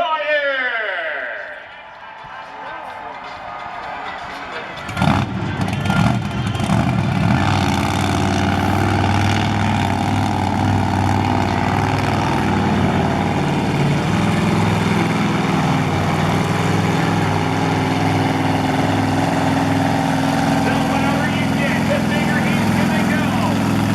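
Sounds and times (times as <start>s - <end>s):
truck engine running steadily: 3.5s - 23.9s.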